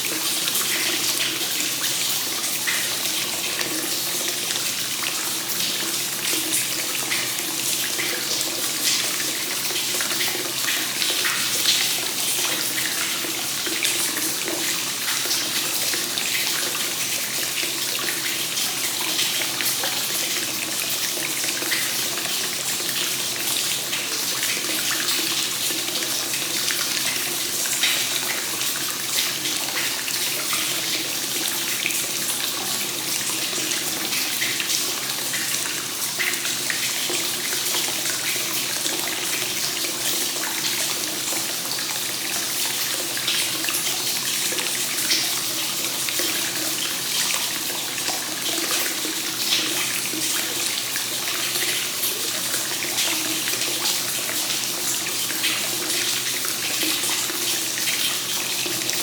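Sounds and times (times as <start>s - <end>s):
water pouring into a bath: 0.0s - 59.0s.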